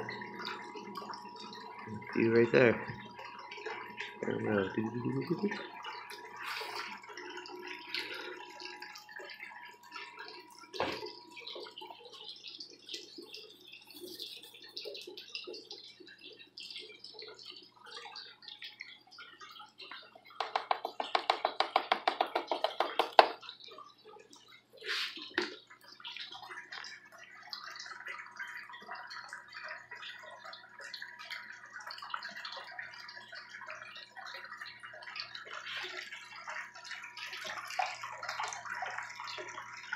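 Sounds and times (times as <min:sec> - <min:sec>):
water trickling down sluice: 0:00.0 - 0:39.9.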